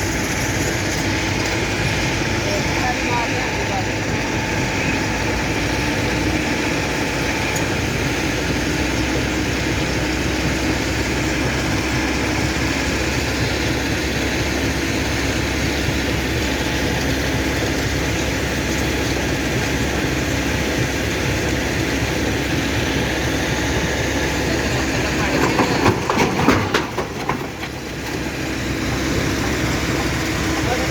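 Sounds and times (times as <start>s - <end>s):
stone crusher rumbling: 0.0s - 30.9s.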